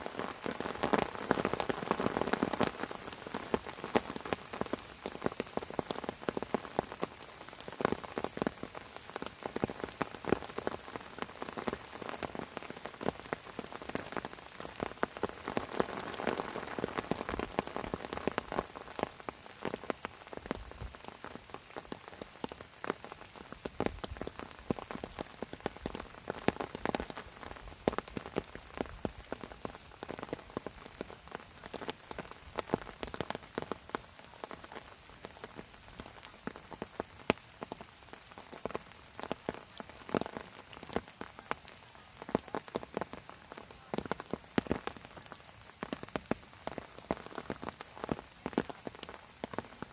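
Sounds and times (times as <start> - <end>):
rain pattering on leaves: 0.0 - 49.9.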